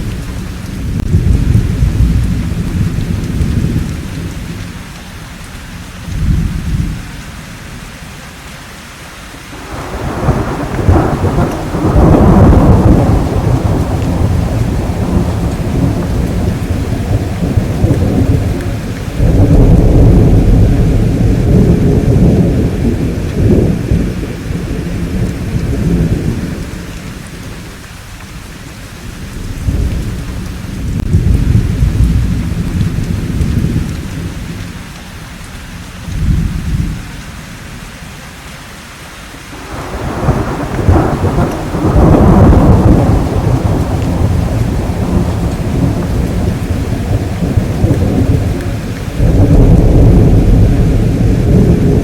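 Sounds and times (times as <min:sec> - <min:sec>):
rolling thunder: 0:00.0 - 0:04.9, 0:09.6 - 0:35.0, 0:35.6 - 0:37.8, 0:39.6 - 0:52.0
steady rain: 0:00.0 - 0:52.0.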